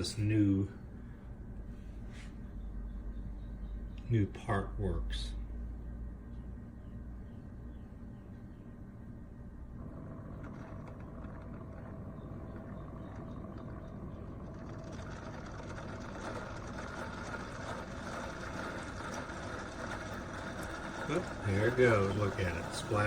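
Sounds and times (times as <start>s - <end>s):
coffee maker pump running: 0.0s - 23.0s.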